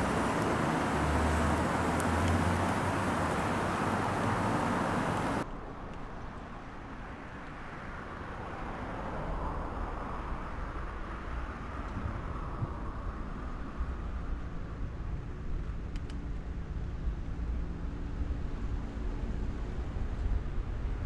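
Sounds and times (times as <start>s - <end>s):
road traffic engine hum: 0.0s - 21.0s
street noise: 0.0s - 21.0s.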